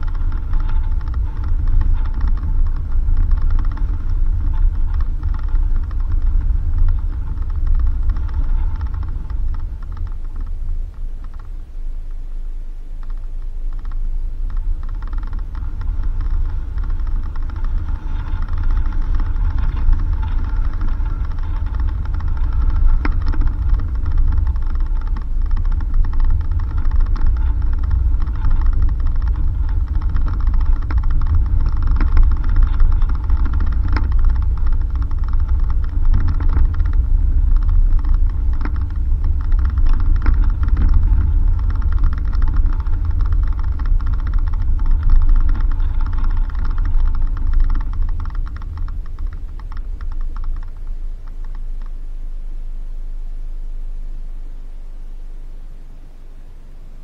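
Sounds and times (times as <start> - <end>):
rapid clicking and rattling: 0.0 - 11.8, 13.0 - 52.2
steady whine: 0.0 - 57.0
vehicle rumbling on dirt road: 0.0 - 57.0.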